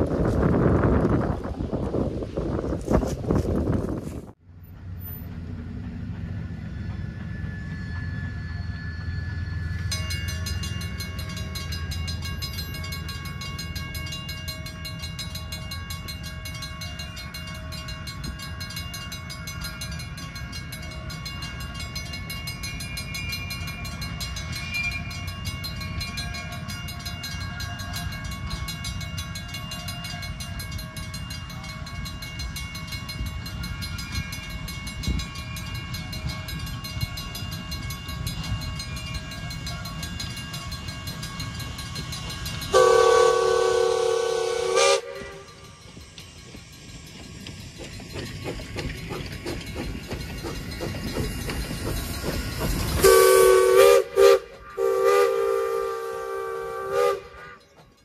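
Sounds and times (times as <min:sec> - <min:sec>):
crossing signal bells ringing: 0:05.9 - 0:58.0.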